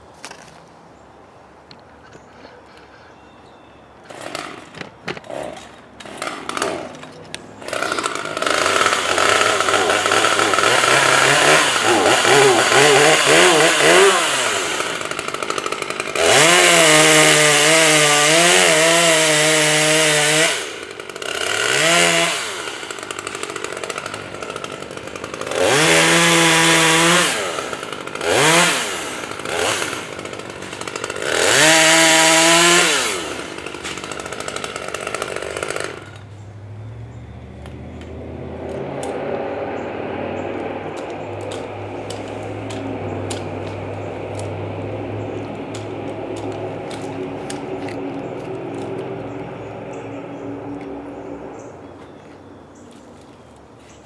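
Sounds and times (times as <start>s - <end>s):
chainsaw engine revving: 4.1s - 36.3s, 37.6s - 51.2s.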